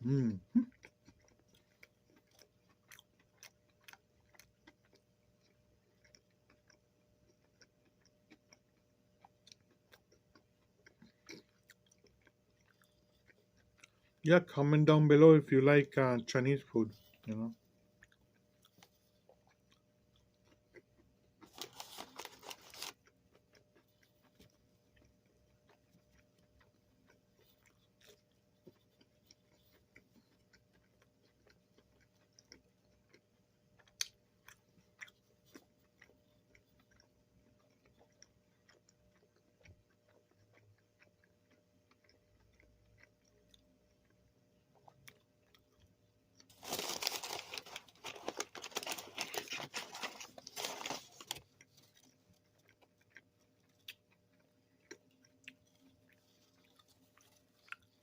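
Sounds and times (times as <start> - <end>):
person chewing: 0.0 - 14.2, 16.8 - 58.0.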